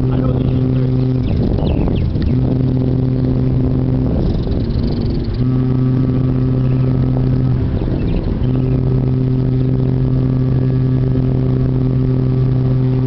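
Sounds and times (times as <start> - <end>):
deep ship horn blast: 0.0 - 13.0.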